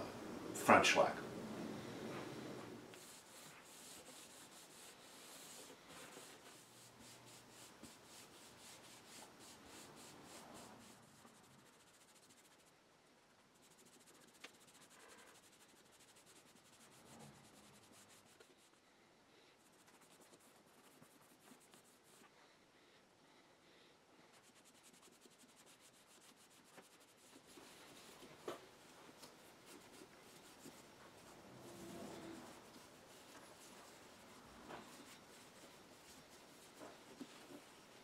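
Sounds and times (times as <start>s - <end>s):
cloth pad rubbing on wood: 1.8s - 12.7s, 13.6s - 18.8s, 19.6s - 22.3s, 24.3s - 38.0s.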